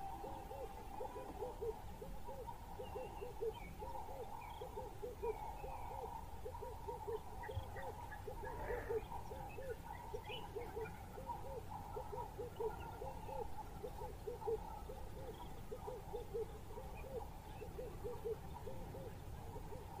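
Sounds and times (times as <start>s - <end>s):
bird hooting notes: 0.0s - 20.0s.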